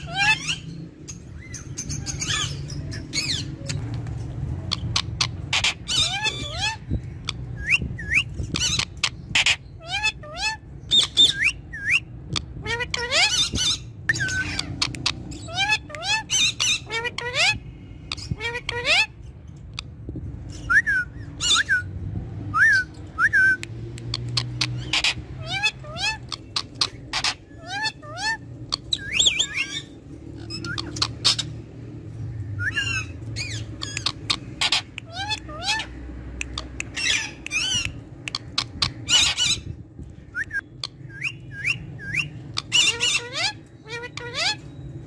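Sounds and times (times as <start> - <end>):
parakeet whistled calls: 0.0 - 3.8, 4.6 - 19.2, 20.5 - 31.6, 32.4 - 45.0.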